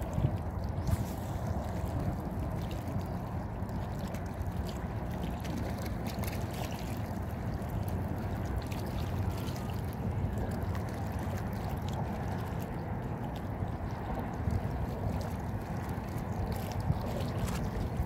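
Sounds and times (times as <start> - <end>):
faint ticks and splashes: 0.0 - 18.0
small waves lapping: 0.0 - 18.0
wind rumbling on microphone: 0.0 - 18.0.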